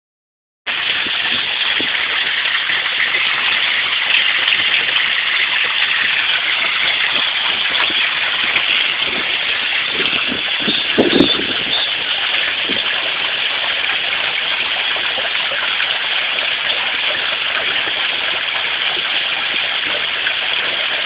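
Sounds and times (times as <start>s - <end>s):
fountain water splashing into pool: 0.7s - 21.0s.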